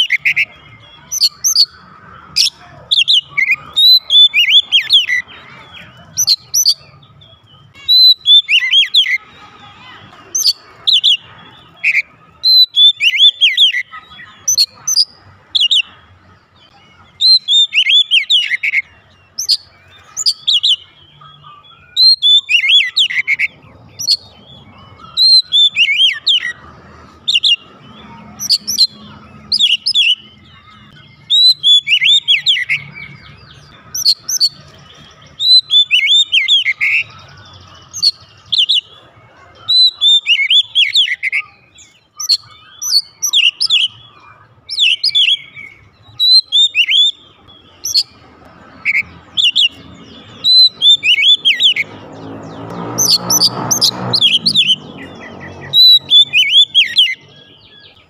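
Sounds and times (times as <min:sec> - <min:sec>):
bird singing whistled phrases: 0:00.0 - 0:16.0, 0:16.7 - 0:26.6, 0:27.2 - 0:39.0, 0:39.6 - 0:48.2, 0:48.8 - 0:52.0, 0:53.0 - 0:58.0.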